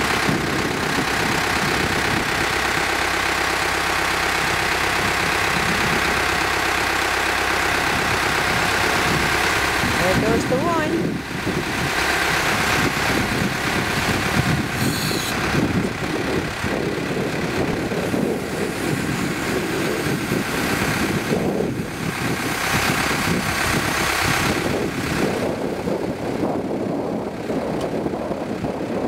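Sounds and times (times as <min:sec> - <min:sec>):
grape harvester running: 0:00.0 - 0:29.0
tractor engine: 0:00.0 - 0:29.0.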